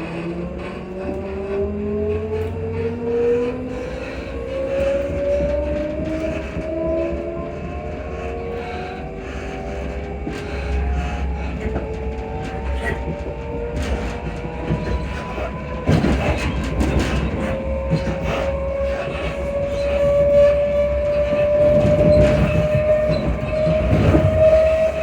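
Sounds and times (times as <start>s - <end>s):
wheels clacking over rail joints: 0.0s - 25.0s.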